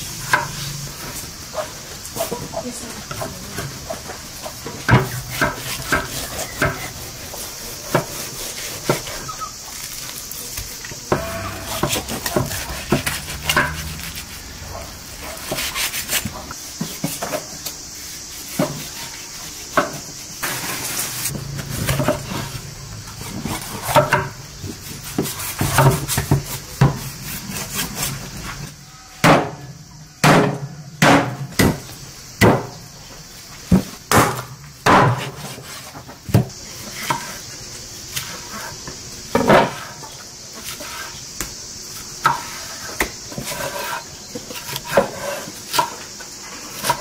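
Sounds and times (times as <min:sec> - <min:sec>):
high-pitched background hiss: 0:00.0 - 0:47.0.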